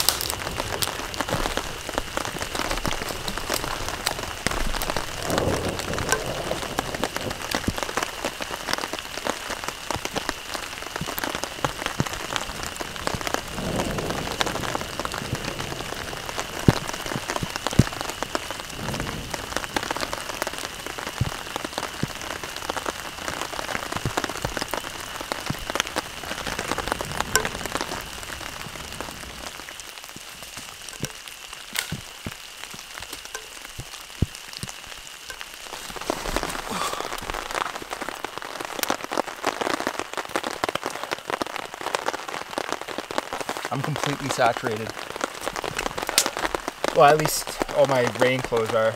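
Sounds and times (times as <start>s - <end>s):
heavy rain pouring: 0.0s - 48.9s
raindrops tapping: 0.0s - 48.9s.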